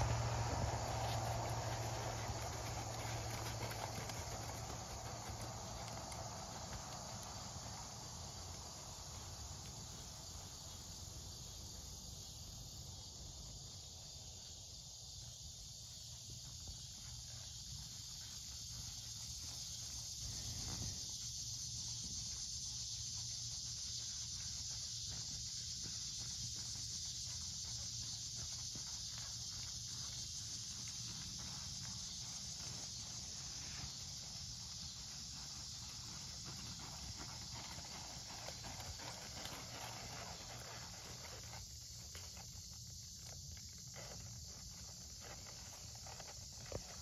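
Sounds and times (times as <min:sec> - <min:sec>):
horse hoofbeats on sand: 0:00.0 - 0:47.0.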